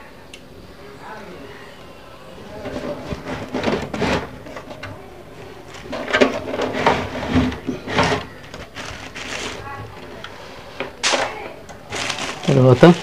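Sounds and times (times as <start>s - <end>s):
rustling of wires and plastic: 2.4s - 13.0s.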